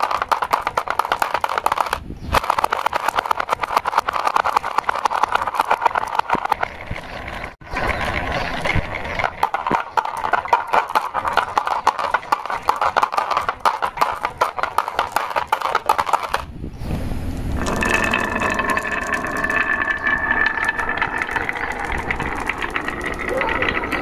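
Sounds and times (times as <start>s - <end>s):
marbles clattering on wood: 0.0s - 16.5s, 17.6s - 24.0s
marbles rolling rumble: 0.0s - 16.5s, 17.5s - 24.0s.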